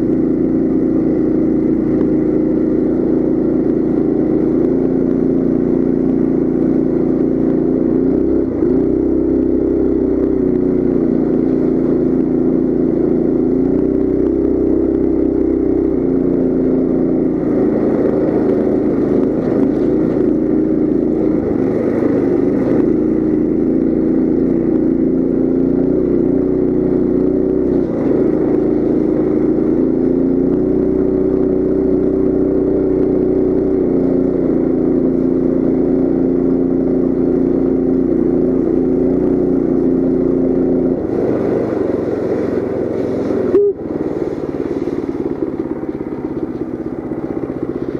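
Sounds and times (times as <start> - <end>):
mini bike engine running: 0.0 - 47.9.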